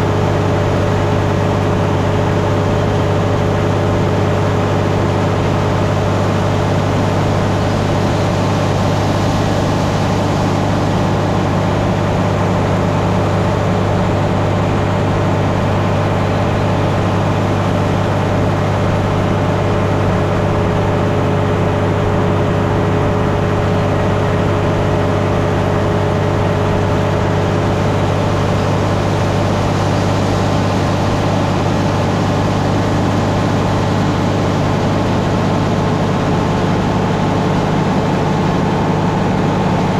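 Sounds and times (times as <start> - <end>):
grain machinery low drone: 0.0 - 39.9
steady hum: 0.0 - 39.9.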